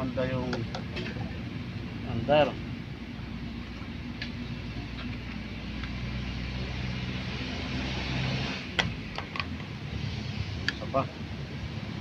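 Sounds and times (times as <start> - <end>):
car engine idling: 0.0 - 7.8, 8.6 - 12.0.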